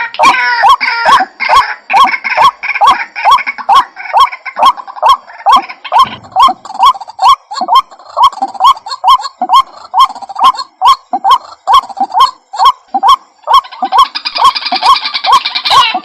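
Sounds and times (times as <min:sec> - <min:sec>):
higher harsher bird call: 0:00.0 - 0:16.0
waterhen calling rapid rising notes: 0:00.0 - 0:16.0.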